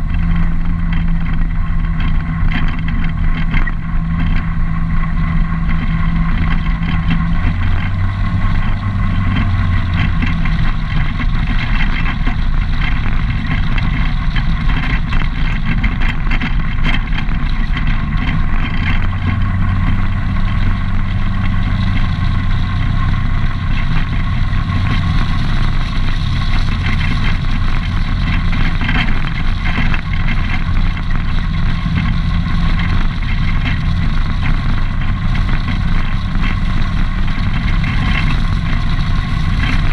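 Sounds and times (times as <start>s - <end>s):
atv engine running: 0.0s - 39.9s
tyres on gravel road: 0.0s - 39.9s.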